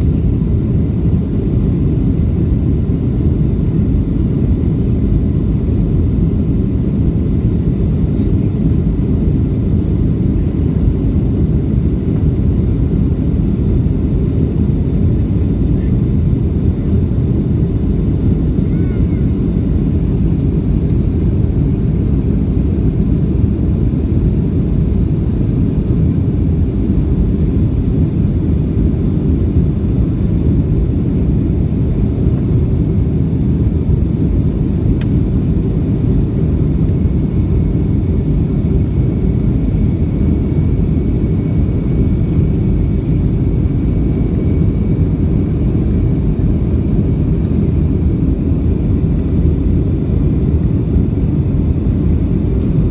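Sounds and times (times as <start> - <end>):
jet engine rumble in cabin: 0.0 - 52.9.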